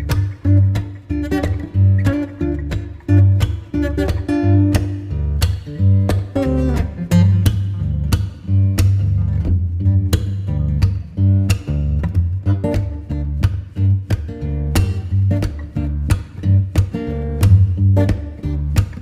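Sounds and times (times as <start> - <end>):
acoustic guitar music with bass: 0.0 - 19.0.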